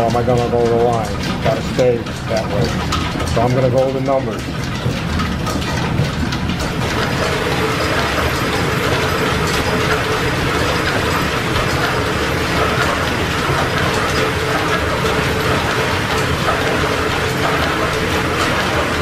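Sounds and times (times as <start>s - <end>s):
metal lathe gears clattering: 0.0s - 19.0s.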